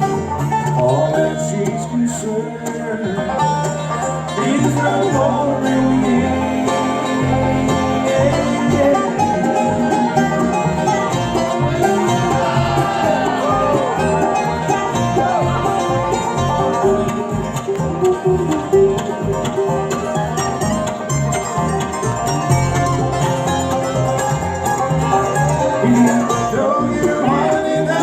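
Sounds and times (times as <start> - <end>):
banjo: 0.0 - 28.0
guitar: 0.0 - 28.0.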